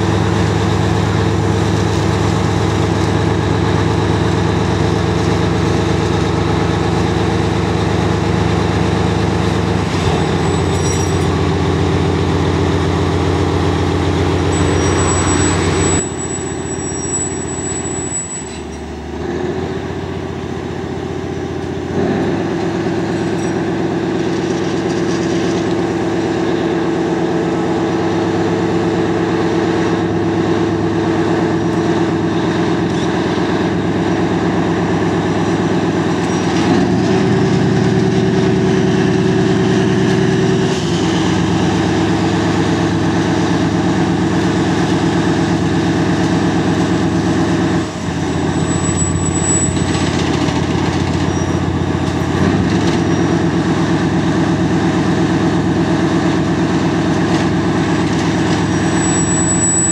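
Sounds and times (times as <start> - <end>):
diesel locomotive engine under load: 0.0 - 59.9.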